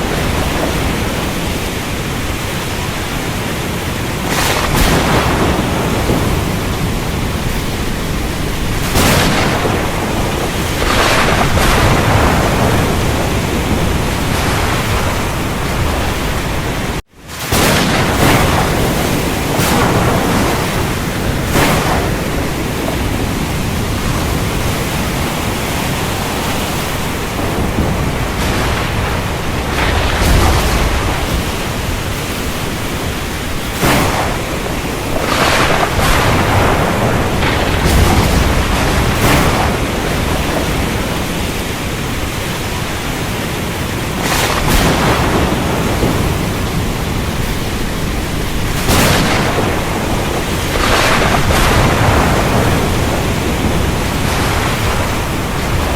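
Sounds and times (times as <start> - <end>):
heavy rain falling: 0.0 - 55.9
low thunder rumbles: 0.0 - 55.9
sharp thunder cracks: 0.0 - 55.9.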